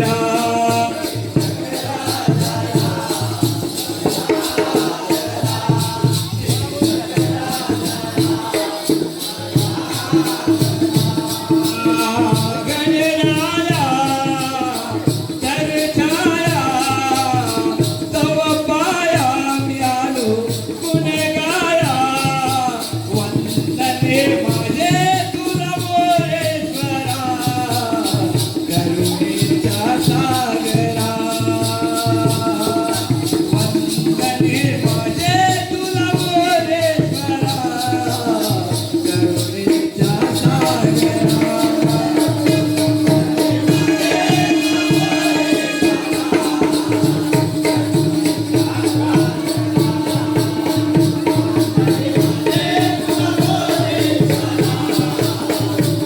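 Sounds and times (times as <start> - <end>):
person singing devotional melody: 0.0 - 56.0
small cymbals jingling: 0.0 - 56.0.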